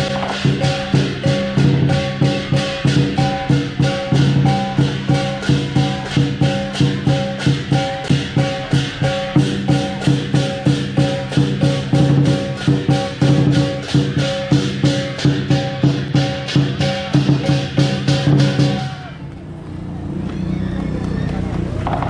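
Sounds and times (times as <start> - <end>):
cymbals clashing: 0.0 - 19.2
lion drum beating: 0.0 - 19.2.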